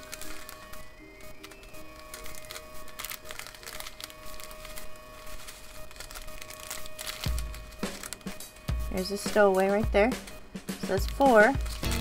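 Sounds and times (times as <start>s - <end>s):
plastic bags crinkling: 0.0s - 9.2s, 10.2s - 12.0s.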